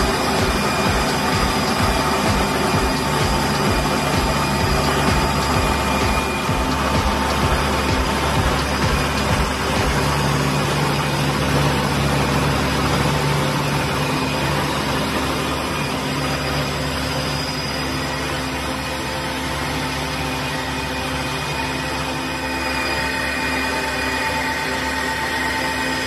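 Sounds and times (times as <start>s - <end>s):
factory machinery humming: 0.0s - 26.0s.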